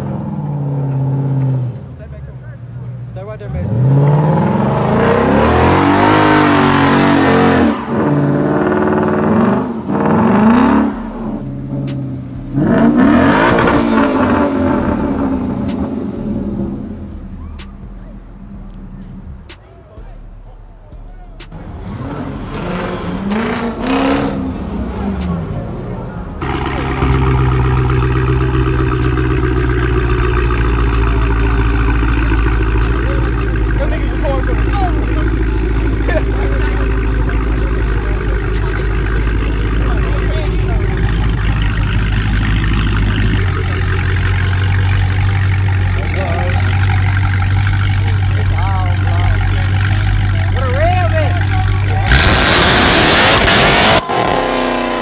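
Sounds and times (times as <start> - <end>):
car engine revving hard: 3.4 - 19.6, 21.4 - 55.0.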